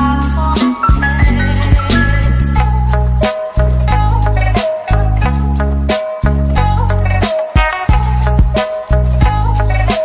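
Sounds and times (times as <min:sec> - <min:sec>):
lo-fi beat with bass: 0:00.0 - 0:10.0.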